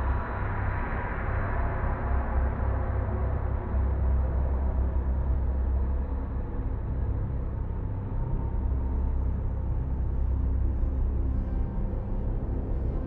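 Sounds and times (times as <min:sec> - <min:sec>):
deep droning rumble: 0:00.0 - 0:13.0.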